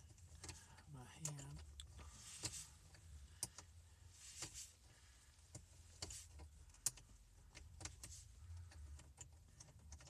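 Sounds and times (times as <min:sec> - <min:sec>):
faint rustling: 0:00.0 - 0:10.0.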